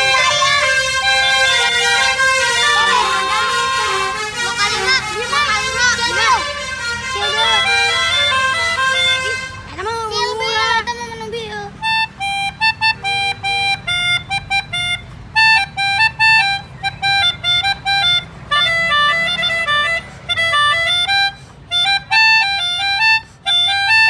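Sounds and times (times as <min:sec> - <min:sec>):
melodica duet: 0:00.0 - 0:24.0.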